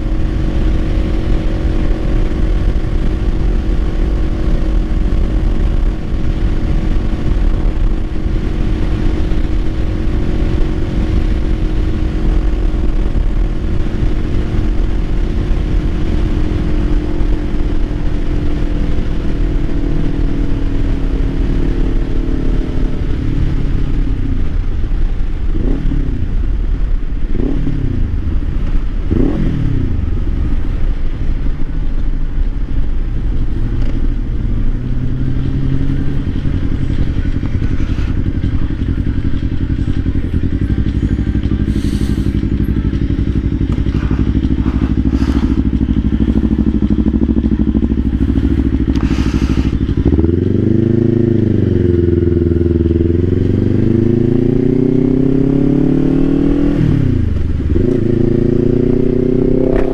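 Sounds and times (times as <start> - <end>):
motorcycle engine running: 0.0 - 59.9
wind rumble: 0.0 - 59.9.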